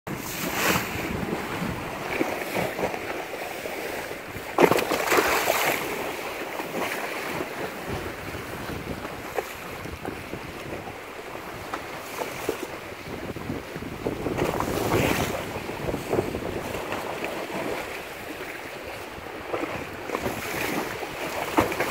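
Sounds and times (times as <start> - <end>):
wind buffeting microphone: 0.1 - 3.1, 6.7 - 21.9
waves splashing against a seawall: 0.1 - 21.9.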